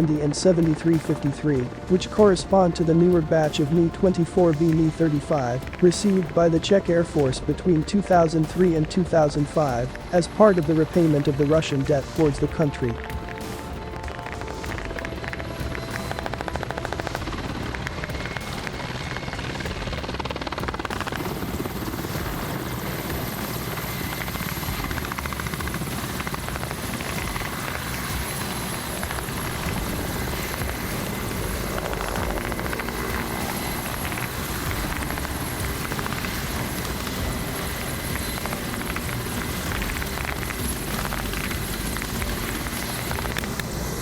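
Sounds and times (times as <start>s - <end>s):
helicopter rotor and engines: 0.0s - 44.0s
thin high whine: 0.0s - 44.0s.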